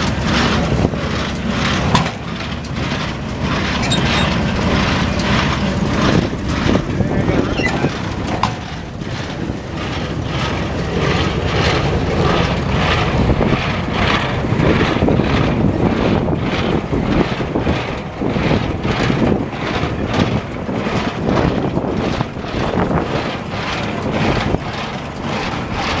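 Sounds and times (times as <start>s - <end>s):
tractor engine drone: 0.0s - 26.0s.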